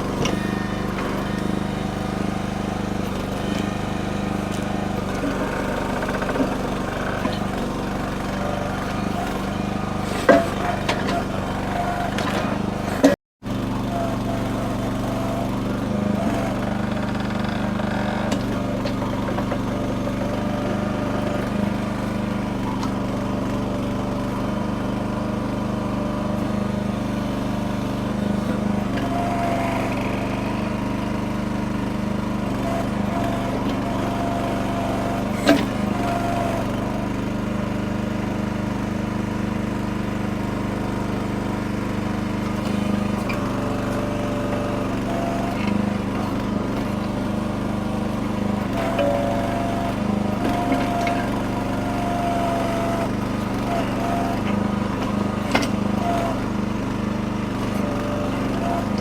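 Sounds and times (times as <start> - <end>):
small gas engine running: 0.0 - 59.0.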